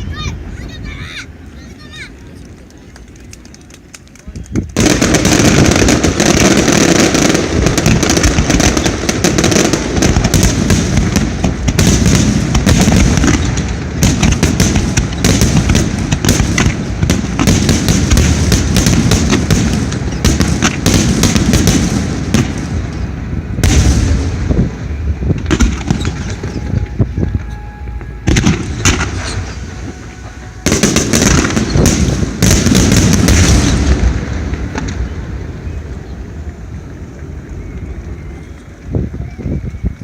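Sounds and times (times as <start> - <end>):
fireworks bursting with crackling: 0.1 - 40.0.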